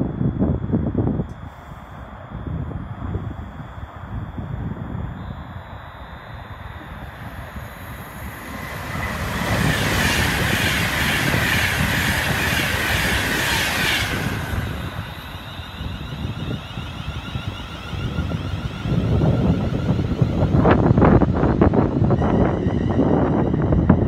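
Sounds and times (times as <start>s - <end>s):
low train rumble: 0.0s - 24.0s
train passing with air rush: 0.0s - 24.0s.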